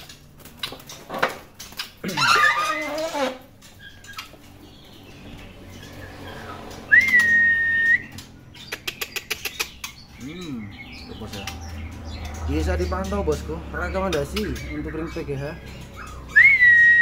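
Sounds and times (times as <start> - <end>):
bird warbling: 1.6 - 17.0.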